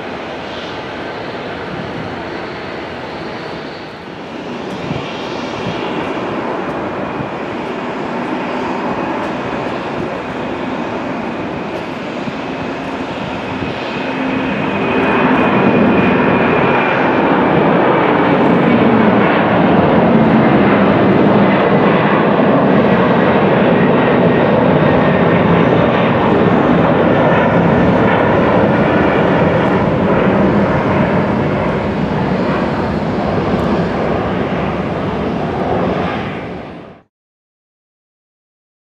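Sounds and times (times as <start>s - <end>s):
jet engine rumble: 0.0s - 37.1s.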